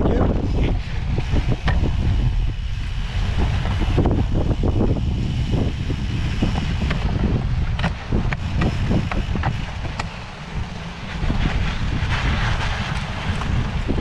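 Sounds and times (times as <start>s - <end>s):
bicycle rattling on gravel: 0.0s - 14.0s
wind buffeting microphone: 0.0s - 14.0s.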